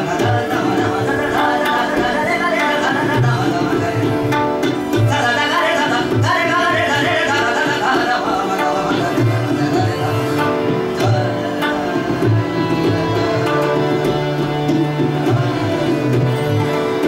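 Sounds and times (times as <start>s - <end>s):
man singing: 0.0s - 16.7s
tabla drumming: 0.0s - 17.0s.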